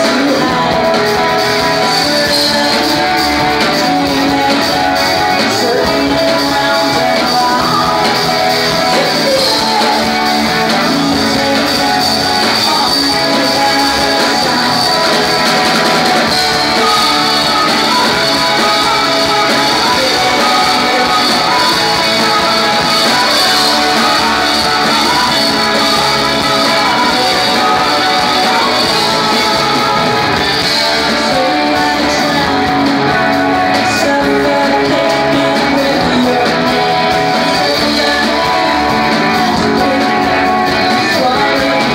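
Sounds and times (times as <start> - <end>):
electric guitars: 0.0 - 41.9
rock band playing live: 0.0 - 41.9.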